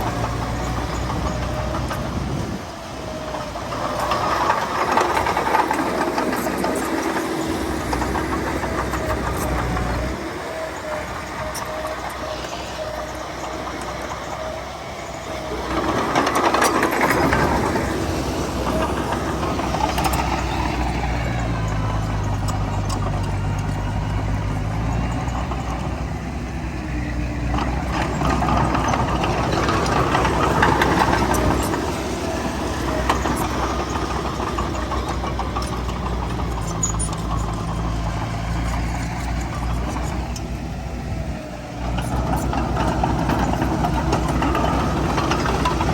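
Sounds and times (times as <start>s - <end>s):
heavy diesel machinery engines: 0.0s - 45.9s.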